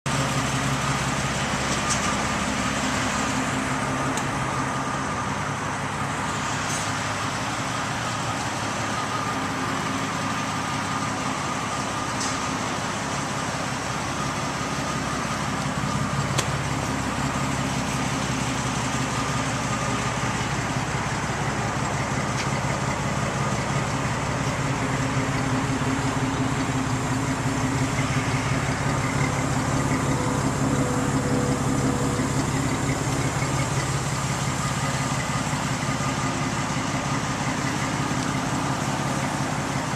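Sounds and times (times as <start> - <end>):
car engine idling: 0.1 - 39.9.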